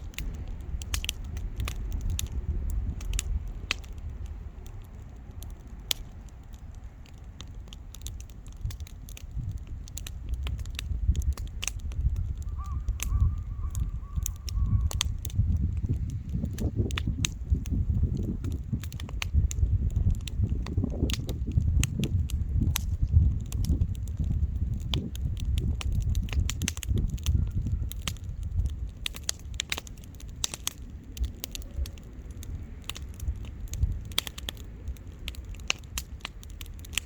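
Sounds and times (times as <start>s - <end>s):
campfire crackling: 0.0s - 37.0s
gusty low rumble: 0.0s - 37.0s.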